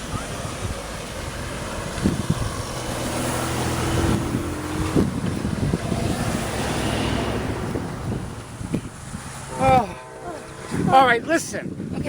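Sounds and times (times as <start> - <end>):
engine droning: 0.0 - 12.0
wind on microphone: 0.0 - 12.0.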